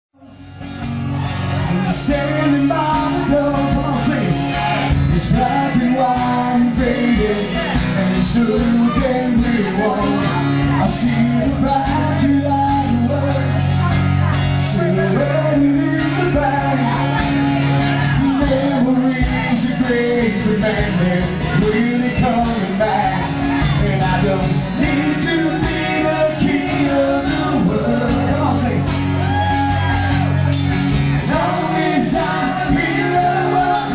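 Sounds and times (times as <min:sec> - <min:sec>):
rock band playing live: 0:00.2 - 0:33.9
person singing: 0:01.2 - 0:30.6, 0:31.2 - 0:33.9.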